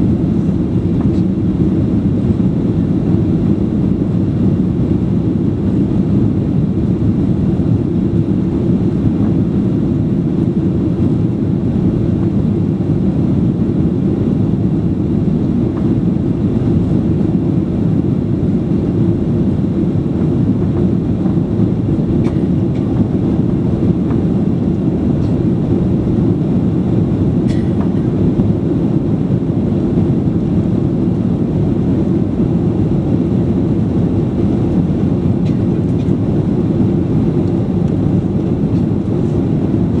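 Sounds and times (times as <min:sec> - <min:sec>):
airplane cabin engine drone: 0:00.0 - 0:40.0.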